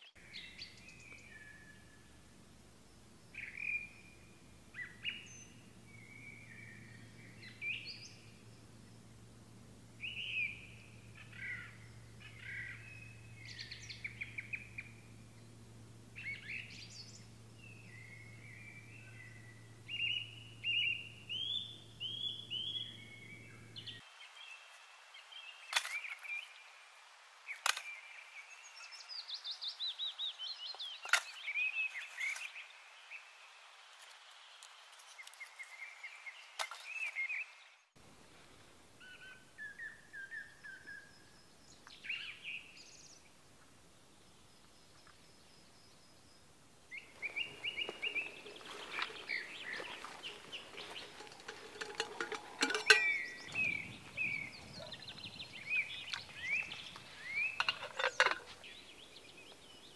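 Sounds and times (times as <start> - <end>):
songbirds chirping: 0.0 - 26.8, 27.5 - 59.9.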